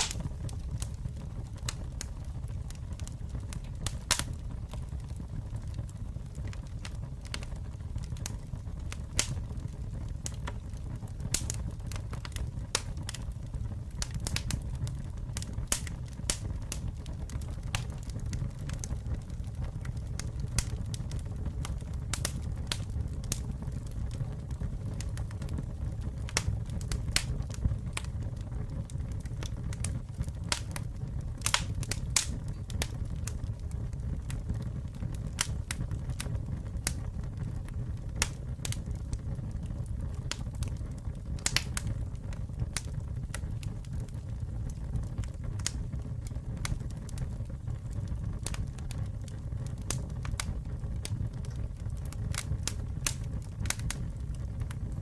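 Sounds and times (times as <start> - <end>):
burning wood crackling and popping: 0.0 - 55.0
low rumble of campfire: 0.0 - 55.0.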